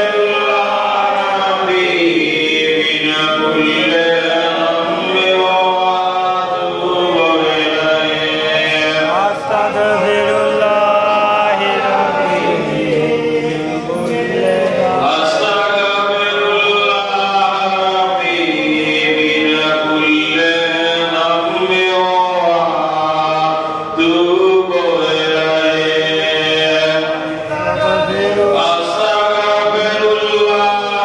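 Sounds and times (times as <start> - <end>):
man chanting: 0.0 - 31.0.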